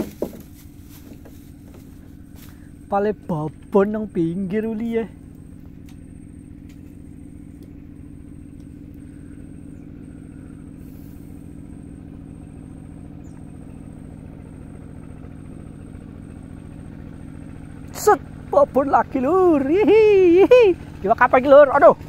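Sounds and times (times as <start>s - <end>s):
small engine running steadily: 0.0s - 22.0s.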